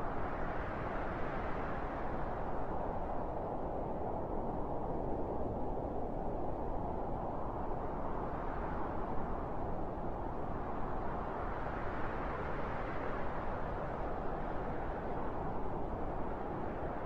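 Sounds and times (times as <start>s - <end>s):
soft steady wind: 0.0s - 17.0s.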